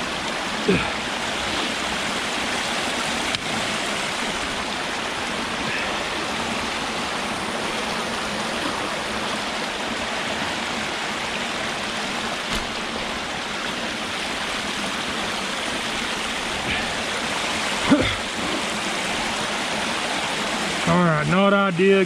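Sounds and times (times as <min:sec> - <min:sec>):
creek water rushing over dam: 0:00.0 - 0:22.0.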